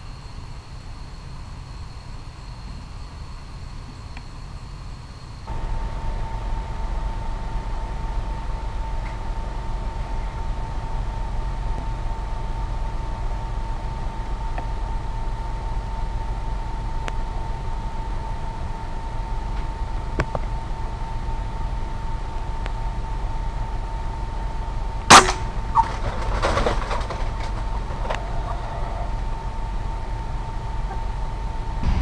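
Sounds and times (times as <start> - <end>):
thin whine and low hum: 0.0 - 32.0.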